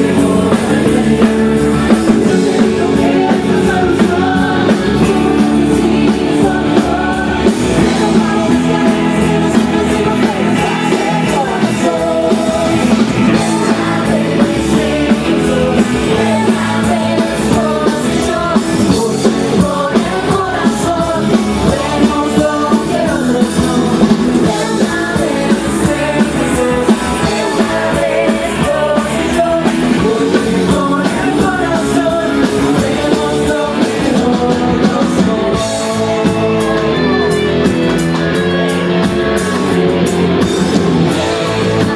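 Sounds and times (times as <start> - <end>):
person singing: 0.0 - 39.8
pop-rock band playing: 0.0 - 41.9.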